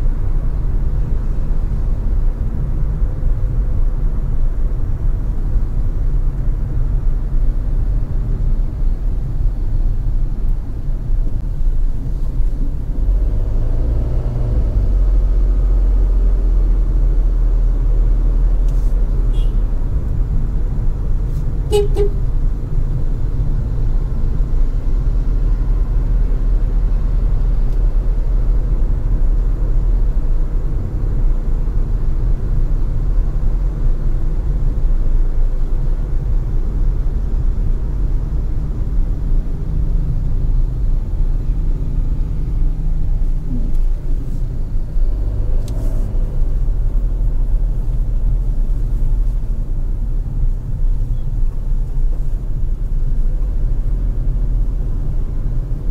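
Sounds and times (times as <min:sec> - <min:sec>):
car driving road noise: 0:00.0 - 0:55.9.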